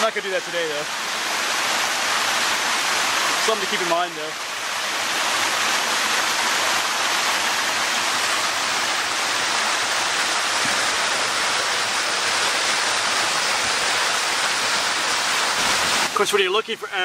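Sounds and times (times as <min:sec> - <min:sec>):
stream rushing over small waterfalls: 0:00.0 - 0:17.0.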